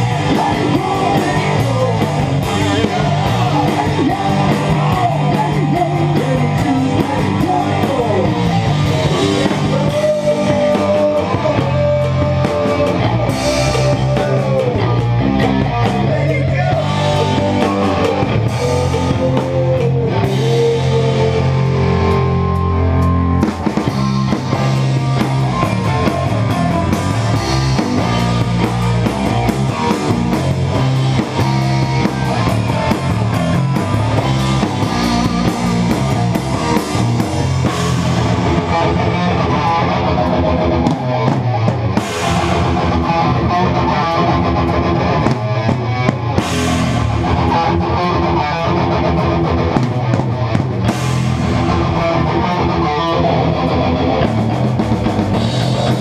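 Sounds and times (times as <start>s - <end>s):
electric bass playing along: 0.0s - 56.0s
heavy metal music: 0.0s - 56.0s.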